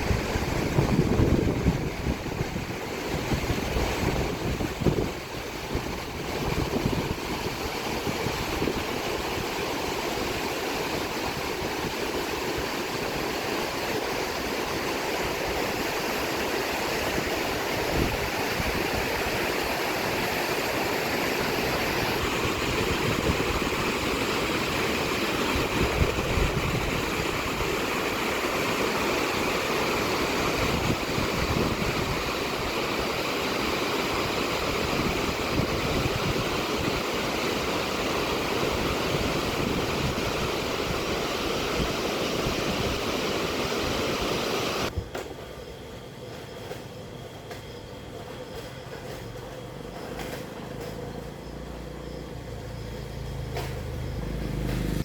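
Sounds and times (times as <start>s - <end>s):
floodwater rushing: 0.0s - 44.9s.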